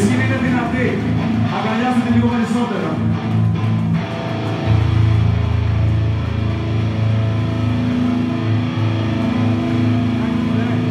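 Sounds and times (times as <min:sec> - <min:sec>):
low drone of amplified instruments: 0:00.0 - 0:10.9.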